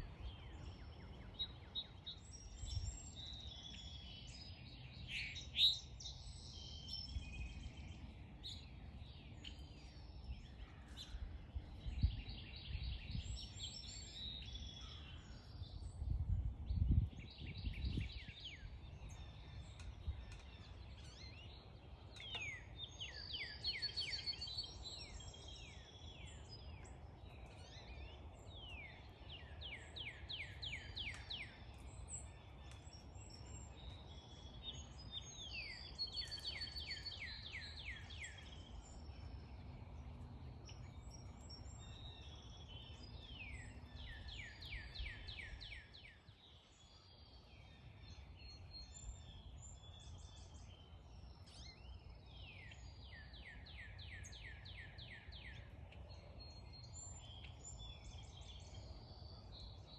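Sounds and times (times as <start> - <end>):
birds chirping faintly: 0.0 - 59.9.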